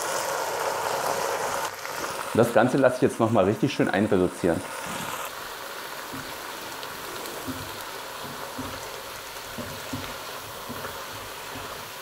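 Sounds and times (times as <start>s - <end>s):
vegetables and wine sizzling in a pot: 0.0s - 12.0s.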